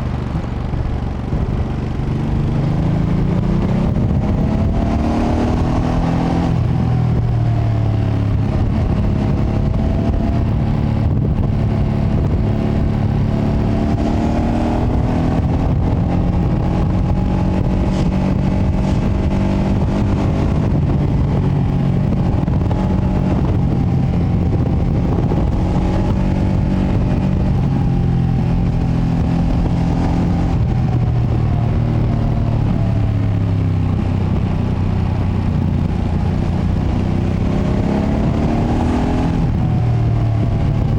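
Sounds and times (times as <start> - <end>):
motorcycle engine revving: 0.0 - 40.9
wind rumble on microphone: 0.0 - 40.9.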